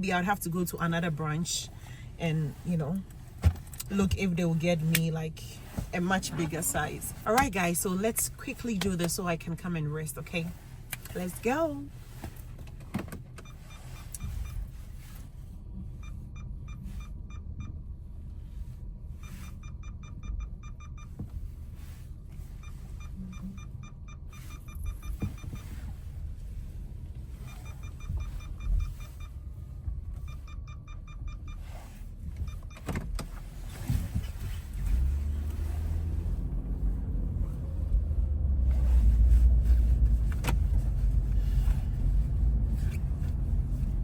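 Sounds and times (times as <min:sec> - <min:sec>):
road and engine rumble in car: 0:00.0 - 0:44.0.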